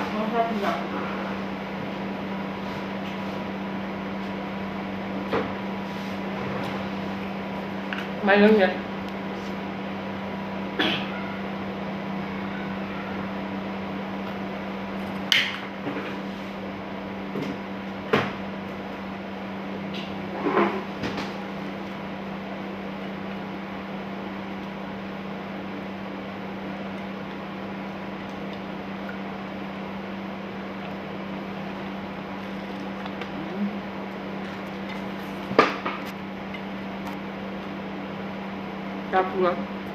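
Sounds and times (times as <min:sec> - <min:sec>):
kitchen appliance humming: 0:00.0 - 0:39.9.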